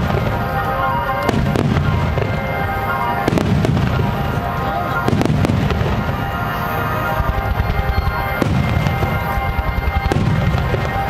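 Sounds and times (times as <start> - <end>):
fireworks bursting with bangs: 0.0 - 11.0
music playing: 0.0 - 11.0.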